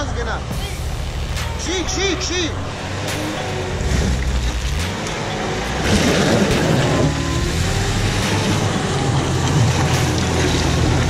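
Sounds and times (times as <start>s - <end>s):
vehicle engine running: 0.0s - 11.0s
rushing noise: 0.4s - 11.0s.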